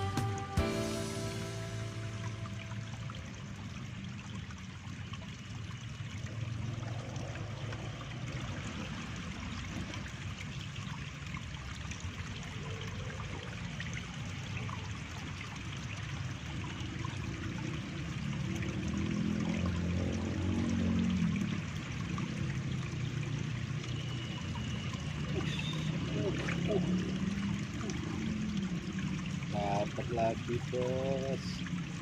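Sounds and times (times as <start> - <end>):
stream trickling: 0.0 - 32.0.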